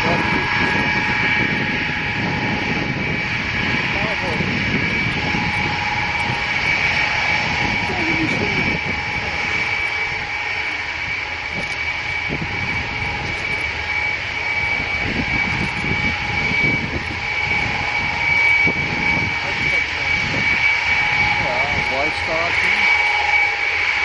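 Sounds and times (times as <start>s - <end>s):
constant engine rumble: 0.0s - 24.0s
jet engines whining at taxi power: 0.0s - 24.0s.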